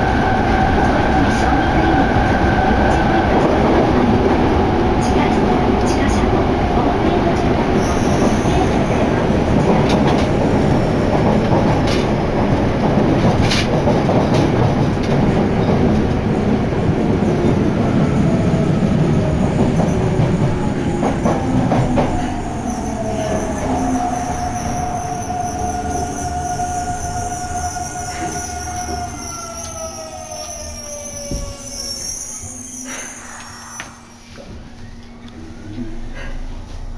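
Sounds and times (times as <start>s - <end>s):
train rumbling through tunnel: 0.0s - 36.9s.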